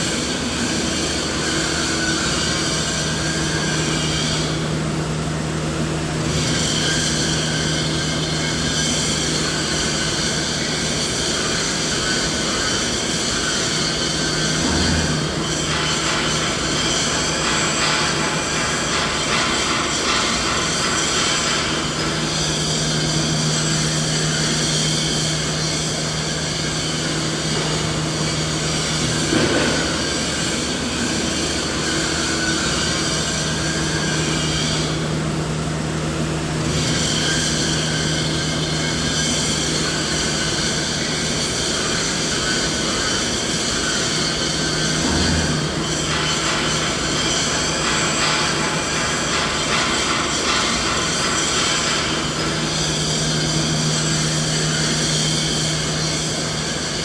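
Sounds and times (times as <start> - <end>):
machine drone with low hum: 0.0 - 57.0.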